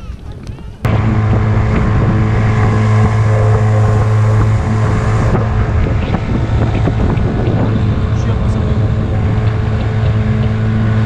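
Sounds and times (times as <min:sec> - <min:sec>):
wind on microphone: 0:00.0 - 0:11.0
outboard motor running: 0:00.8 - 0:11.0.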